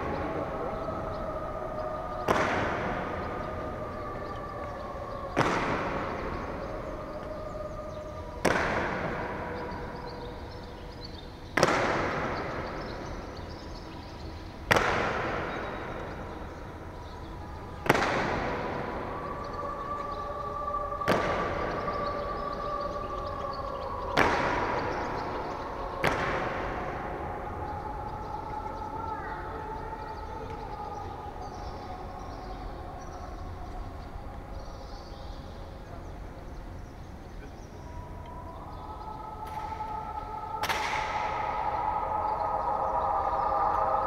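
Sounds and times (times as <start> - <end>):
soft sustained music: 0.0 - 44.0.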